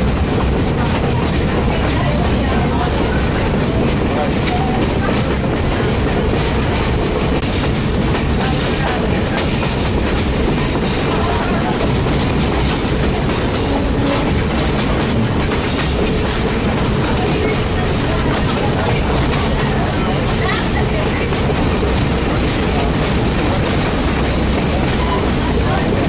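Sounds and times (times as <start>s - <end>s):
train cars rumbling: 0.0s - 26.0s
wheels clicking over rail joints: 0.0s - 26.0s.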